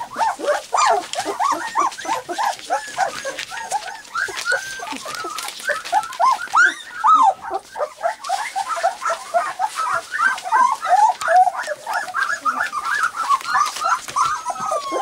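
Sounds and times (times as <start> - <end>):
puppies whining and squeaking: 0.0 - 15.0.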